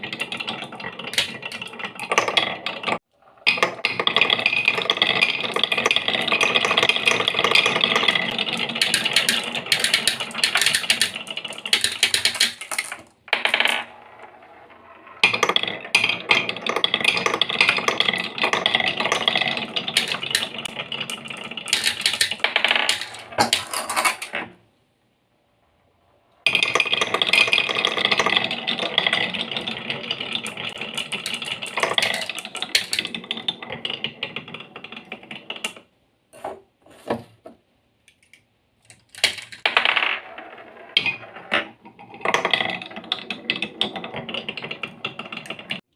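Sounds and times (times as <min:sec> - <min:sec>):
marbles rolling and clattering on wood: 0:00.0 - 0:24.6, 0:26.0 - 0:37.3, 0:38.2 - 0:45.9.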